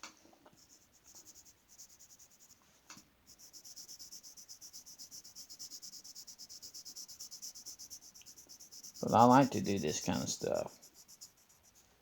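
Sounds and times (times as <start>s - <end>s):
colouring strokes on paper: 0.5s - 12.0s.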